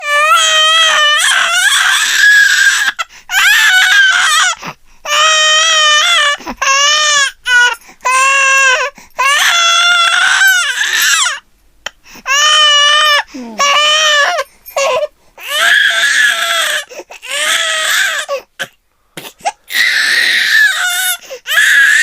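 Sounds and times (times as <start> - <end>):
baby crying: 0.0 - 22.0.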